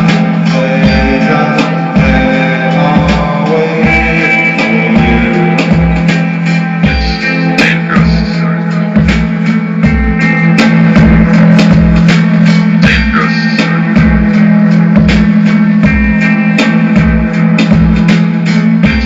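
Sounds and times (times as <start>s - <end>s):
low thumping beat: 0.0s - 19.0s
rock guitar: 0.0s - 19.0s.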